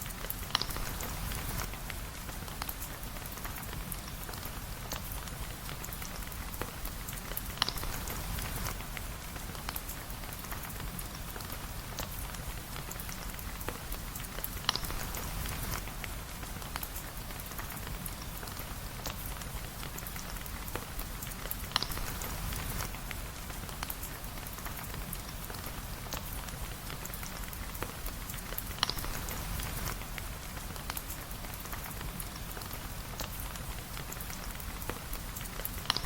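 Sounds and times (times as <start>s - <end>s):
rain pattering on a surface: 0.0s - 36.0s.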